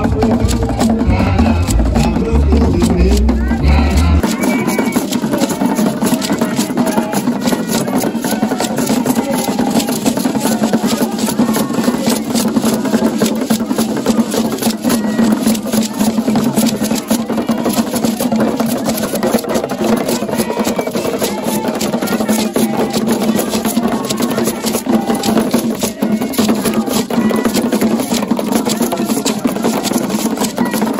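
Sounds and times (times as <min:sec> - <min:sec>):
drums beaten with sticks: 0:00.0 - 0:30.9
gourd rattle shaking: 0:00.0 - 0:30.9.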